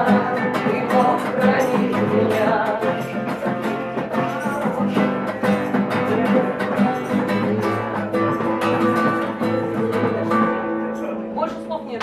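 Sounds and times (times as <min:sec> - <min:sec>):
person singing: 0:00.0 - 0:11.0
acoustic guitar strumming: 0:00.0 - 0:12.0.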